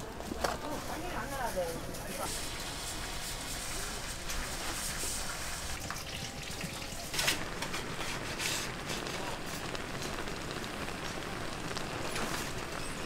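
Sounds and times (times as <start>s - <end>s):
oil sizzling in deep fryer: 0.0s - 13.0s.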